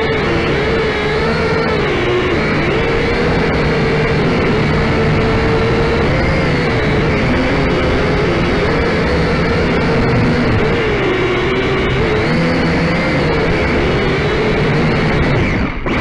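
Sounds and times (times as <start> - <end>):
drone motors whining: 0.0 - 16.0
steady rushing noise: 0.0 - 16.0.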